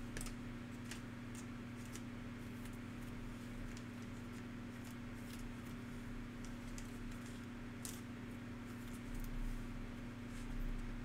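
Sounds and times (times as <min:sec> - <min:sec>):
steady low hum: 0:00.0 - 0:11.0
trading cards rustling and clicking: 0:00.1 - 0:09.4.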